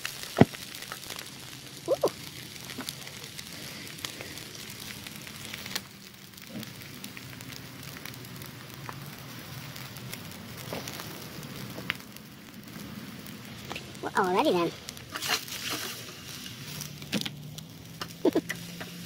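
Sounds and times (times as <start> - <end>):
eggs sizzling in oil: 0.0 - 19.0
oil popping and crackling: 0.0 - 19.0.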